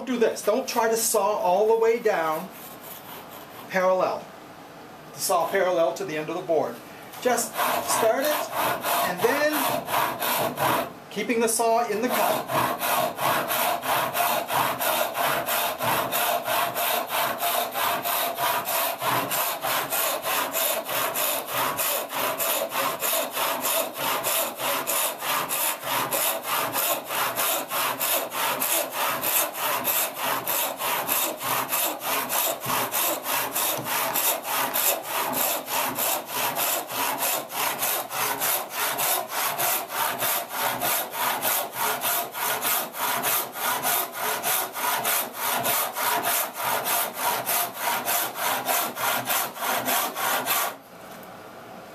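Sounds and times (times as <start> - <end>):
hand saw rasping through wood: 2.1 - 3.8, 7.2 - 10.9, 11.9 - 50.8.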